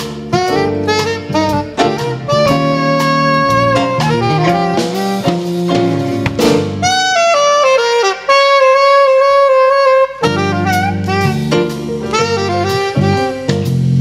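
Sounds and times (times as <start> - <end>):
backing band: 0.0 - 14.0
saxophone playing jazz melody: 0.0 - 14.0.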